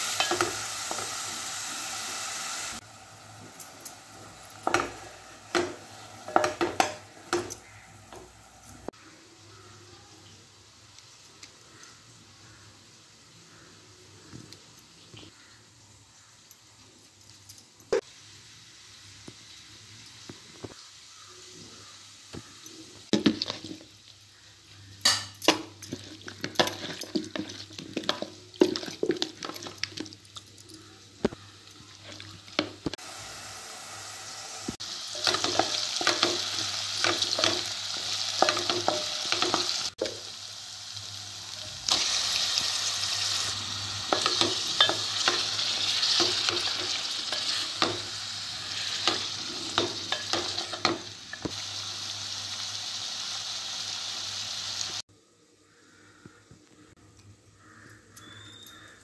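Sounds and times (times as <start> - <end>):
masala sizzling in oil: 0.0 - 17.0, 17.9 - 55.1.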